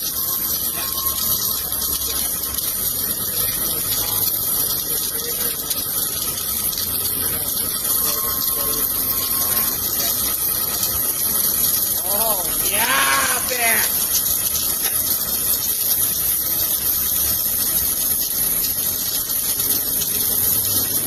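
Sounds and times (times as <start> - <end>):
welding equipment hiss: 0.0 - 21.0.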